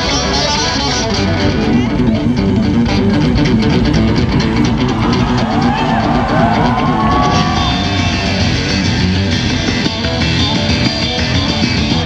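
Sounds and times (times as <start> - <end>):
live rock music: 0.0 - 12.0
sliding bending guitar melody: 0.0 - 12.0.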